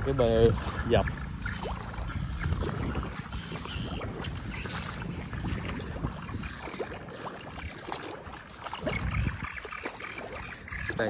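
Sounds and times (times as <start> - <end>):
wading through water and mud: 0.0 - 11.0.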